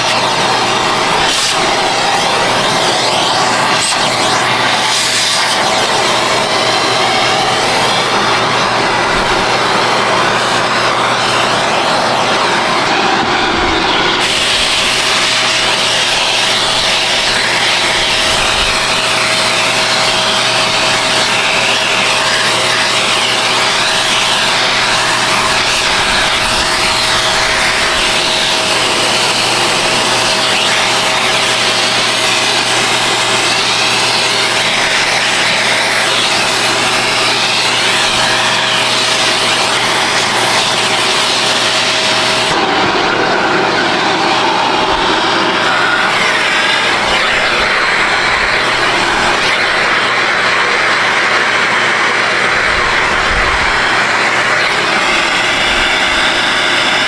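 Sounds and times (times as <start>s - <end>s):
vacuum cleaner whining: 0.0s - 57.0s.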